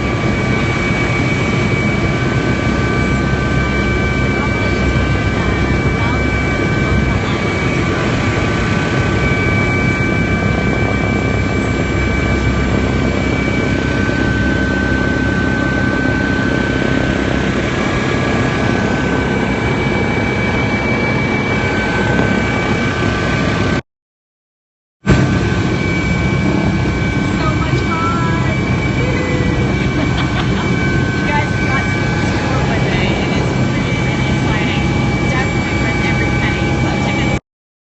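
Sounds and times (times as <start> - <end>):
helicopter rotor rumble: 0.0 - 23.8, 25.0 - 37.4
turbine whine: 0.0 - 23.8, 25.0 - 37.4.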